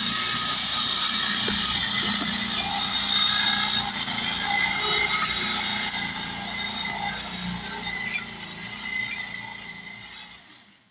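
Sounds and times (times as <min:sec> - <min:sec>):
electric drive whining: 0:00.0 - 0:10.4.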